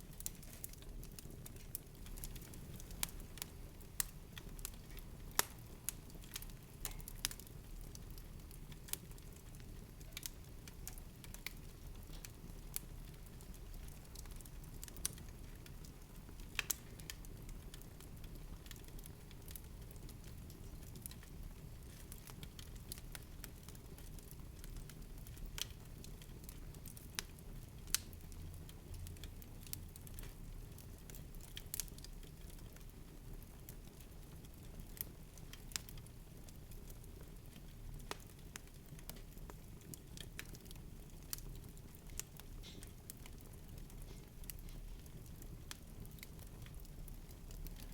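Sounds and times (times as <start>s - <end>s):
fire crackling: 0.0s - 47.9s.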